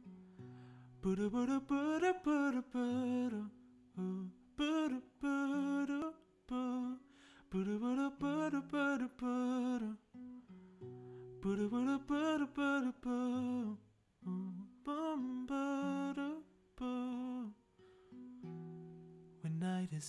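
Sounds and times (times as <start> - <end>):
fingerpicked classical guitar: 0.0 - 20.0.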